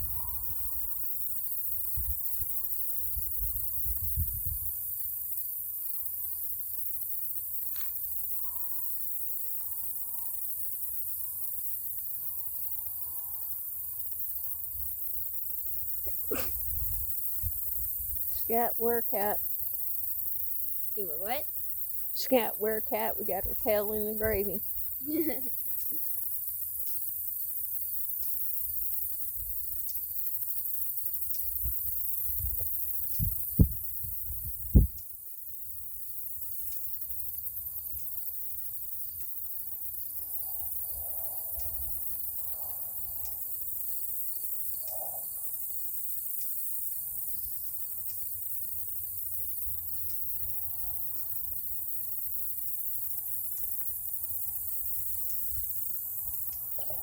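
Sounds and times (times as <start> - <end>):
constant high hiss: 0.0 - 57.0
insects chirping: 0.0 - 57.0.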